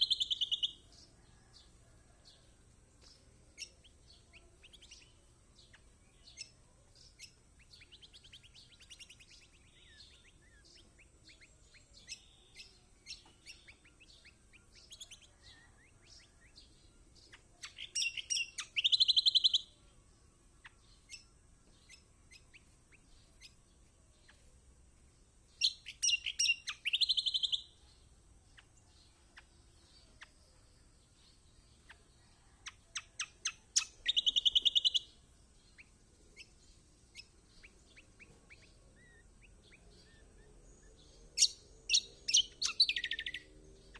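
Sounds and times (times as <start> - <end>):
bird chirping: 0.0 - 43.9.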